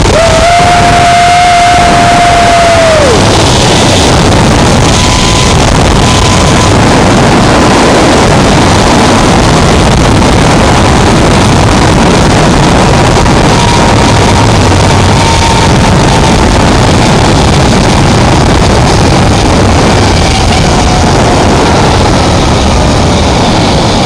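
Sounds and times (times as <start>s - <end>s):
high whine: 0.0s - 24.0s
wind buffeting microphone: 0.0s - 24.0s
zipline pulleys whirring on cable: 0.0s - 24.0s.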